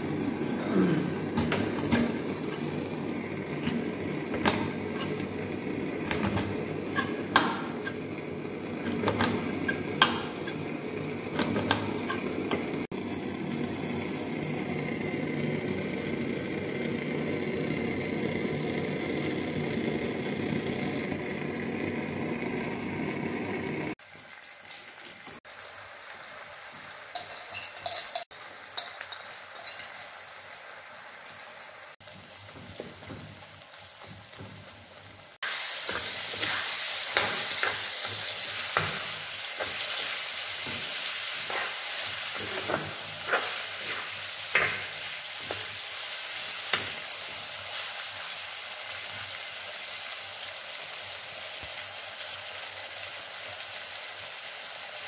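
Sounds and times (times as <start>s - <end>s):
food sizzling in hot oil: 1.2s - 20.2s, 23.6s - 55.0s.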